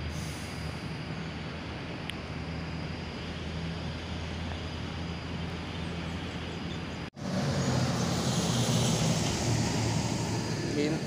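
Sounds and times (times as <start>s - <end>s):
diesel bus engine humming: 0.0s - 11.0s
traffic noise: 0.0s - 11.0s.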